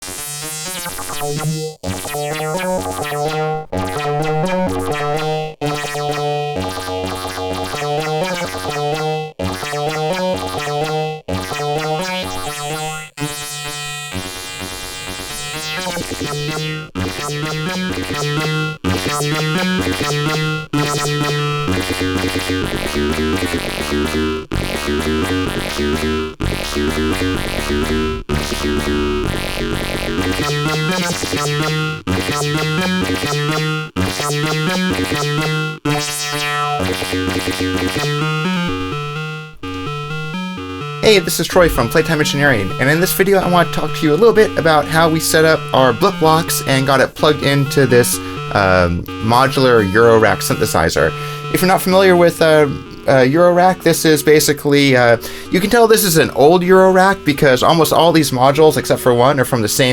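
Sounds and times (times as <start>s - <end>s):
sequenced synthesizer loop: 0.0s - 59.9s
synth bass line: 0.0s - 59.9s.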